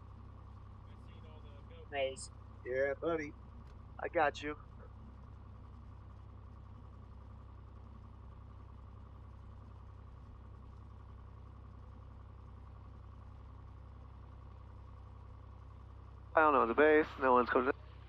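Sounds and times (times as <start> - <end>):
light aircraft engine drone: 0.0 - 18.0.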